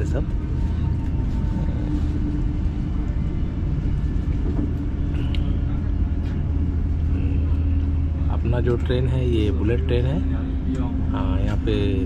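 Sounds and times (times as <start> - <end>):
steady hum: 0.0 - 12.0
train rumble inside cabin: 0.0 - 12.0.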